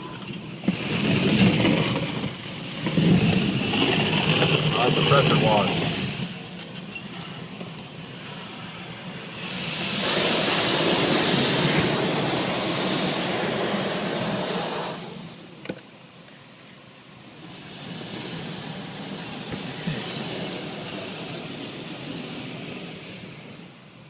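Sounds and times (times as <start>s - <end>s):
high-pressure water jets spraying: 0.0s - 7.0s, 8.0s - 15.4s, 17.3s - 23.8s.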